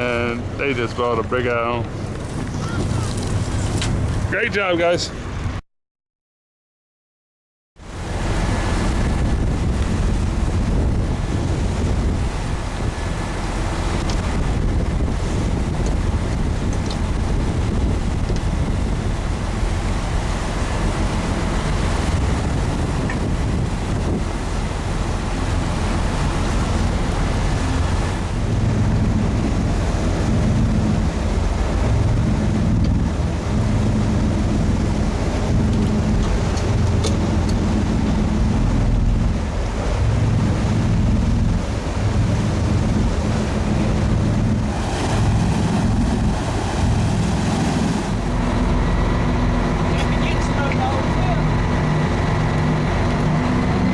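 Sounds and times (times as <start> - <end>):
wind buffeting microphone: 0.0 - 4.4, 7.9 - 53.9
boat engine running: 0.0 - 5.6, 7.8 - 53.9
water rushing past hull: 0.0 - 5.6, 7.8 - 53.9.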